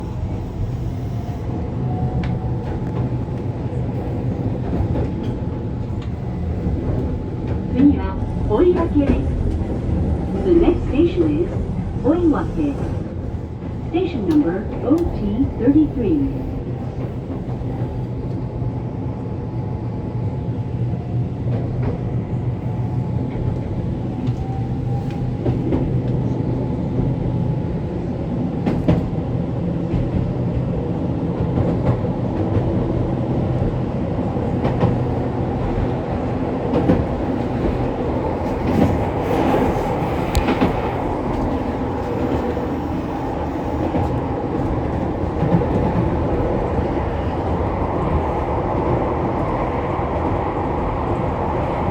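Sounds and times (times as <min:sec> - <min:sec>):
train wheels and motors rumble: 0:00.0 - 0:51.9.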